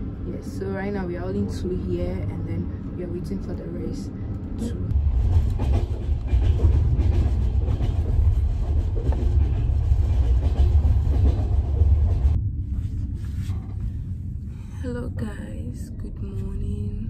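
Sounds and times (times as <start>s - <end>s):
train carriage rumble on rails: 0.0s - 17.0s.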